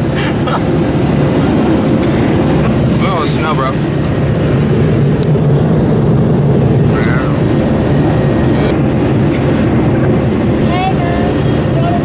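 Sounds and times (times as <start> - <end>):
airliner cabin engine noise: 0.0 - 12.0.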